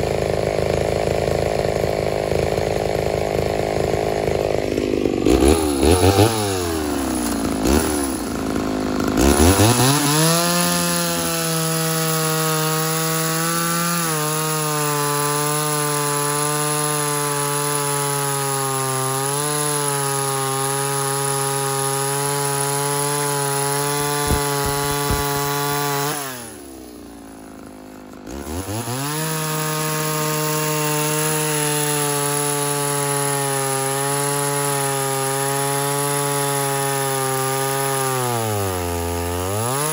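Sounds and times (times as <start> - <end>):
chainsaw revving and cutting log: 0.0 - 39.9.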